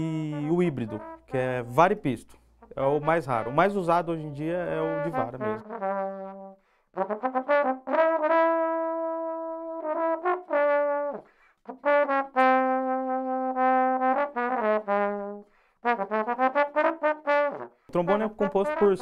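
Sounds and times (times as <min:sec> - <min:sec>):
solo trombone melody: 0:00.0 - 0:02.0, 0:02.6 - 0:19.0.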